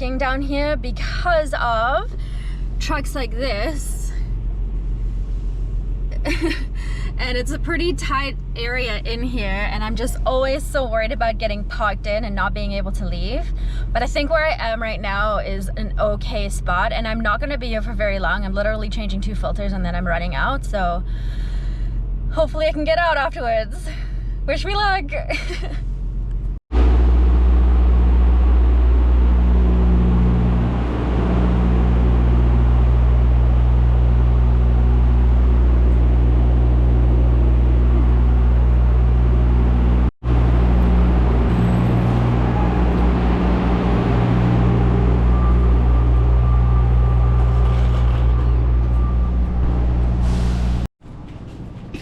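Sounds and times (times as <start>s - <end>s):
vehicle engine humming: 0.0s - 52.0s.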